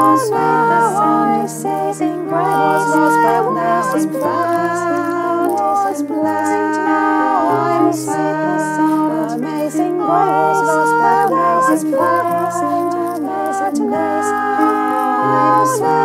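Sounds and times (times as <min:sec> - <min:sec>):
piano chords: 0:00.0 - 0:16.0
woman singing in harmony: 0:00.0 - 0:16.0.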